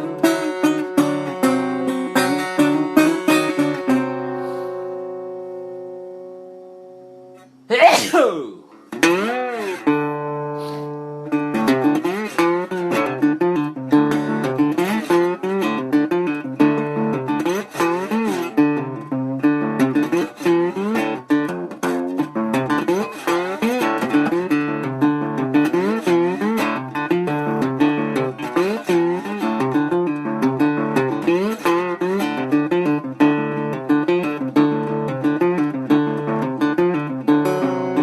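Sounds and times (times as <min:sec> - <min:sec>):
slide guitar: 0:00.0 - 0:38.0.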